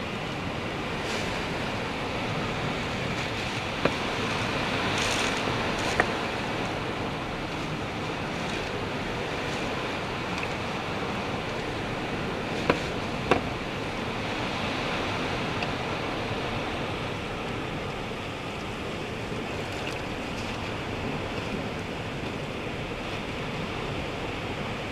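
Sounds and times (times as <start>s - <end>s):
strong wind: 0.0s - 24.9s.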